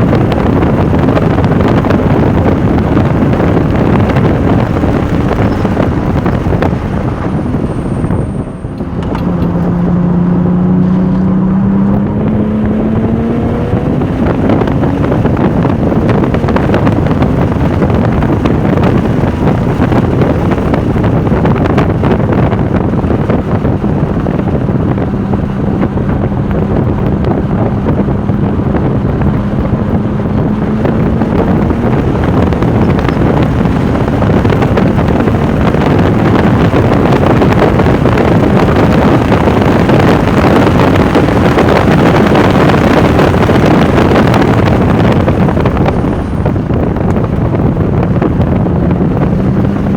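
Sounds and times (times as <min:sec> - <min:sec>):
sports car engine revving: 0:00.0 - 0:49.9
wind noise on microphone: 0:00.0 - 0:49.9.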